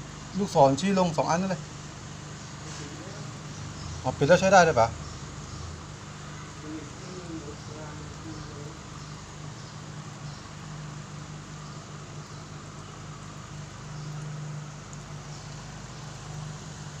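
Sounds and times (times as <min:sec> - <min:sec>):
aquarium pump humming: 0:00.0 - 0:17.0
constant hiss: 0:00.0 - 0:17.0.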